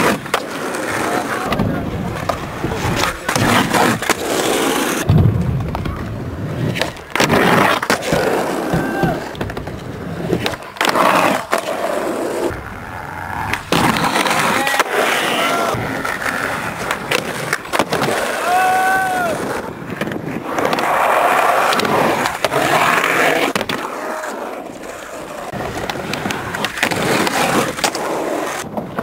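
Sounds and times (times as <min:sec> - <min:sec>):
skateboard grinding on concrete: 0:00.0 - 0:29.0
skateboard tail clacks: 0:00.0 - 0:29.0
skateboard wheels rolling: 0:00.0 - 0:29.0.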